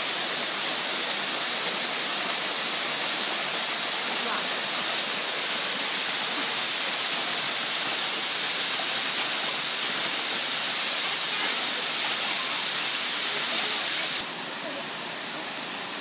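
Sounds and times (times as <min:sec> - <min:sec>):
waterfall rushing over boulders: 0:00.0 - 0:16.0.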